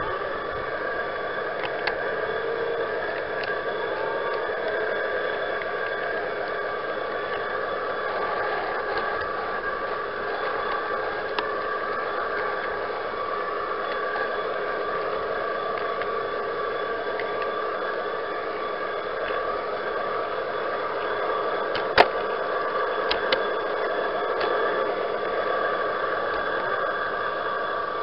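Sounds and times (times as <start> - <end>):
model train motor whirring: 0.0 - 28.0.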